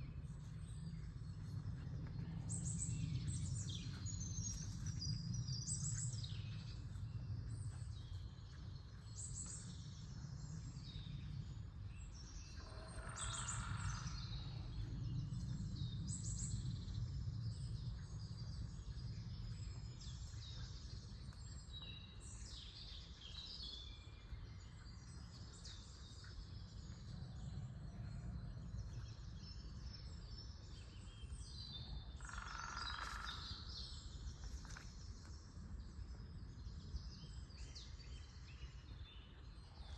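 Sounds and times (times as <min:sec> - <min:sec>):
songbirds singing and chirping: 0:00.0 - 0:39.9
steady low rumble: 0:00.0 - 0:39.9.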